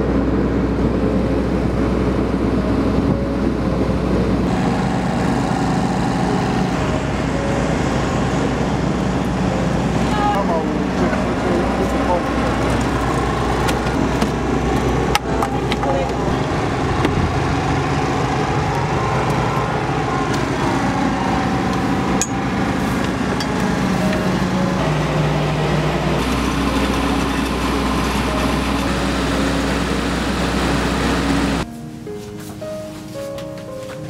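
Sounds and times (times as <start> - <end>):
pitch-shifting tones: 1.0 - 33.4
motor humming: 4.2 - 31.6.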